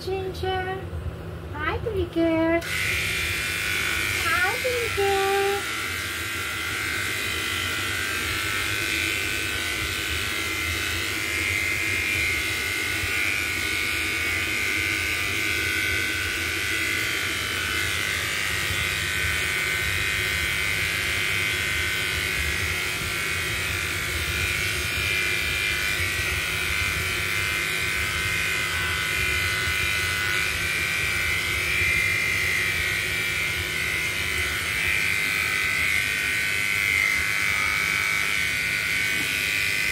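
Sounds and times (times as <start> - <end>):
electric clippers buzzing: 1.6 - 39.9.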